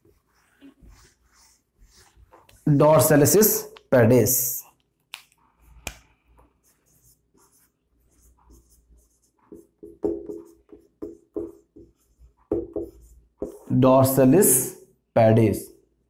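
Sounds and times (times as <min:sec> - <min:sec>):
marker pen on whiteboard: 0:00.0 - 0:16.0.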